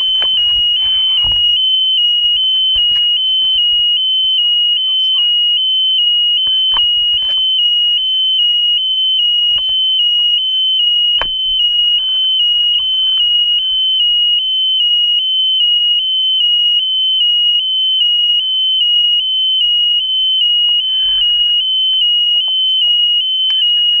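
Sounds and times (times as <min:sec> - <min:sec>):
piezo buzzer high-pitched tone: 0:00.0 - 0:24.0.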